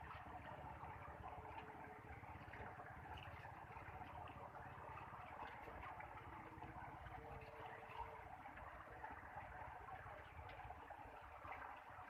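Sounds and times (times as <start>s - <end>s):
water trickling in a ditch: 0.0s - 12.0s.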